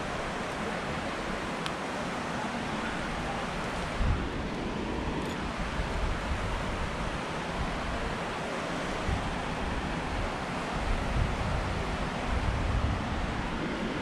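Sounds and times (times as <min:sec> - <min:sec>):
wind buffeting microphone: 0:02.7 - 0:14.0.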